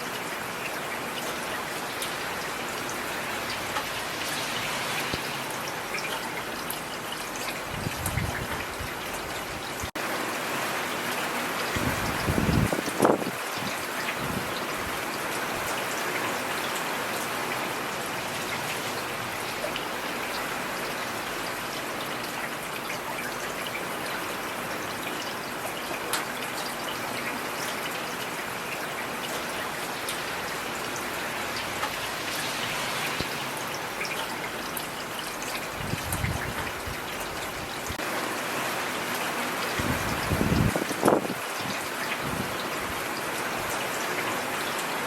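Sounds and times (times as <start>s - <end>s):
rain falling on a street: 0.0s - 45.0s.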